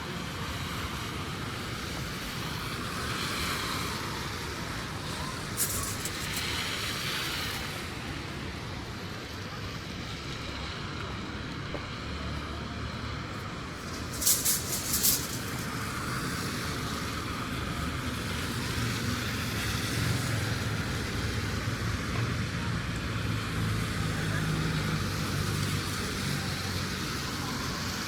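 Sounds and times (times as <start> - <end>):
road traffic: 0.0 - 28.0
vehicle engine hum: 0.0 - 28.0.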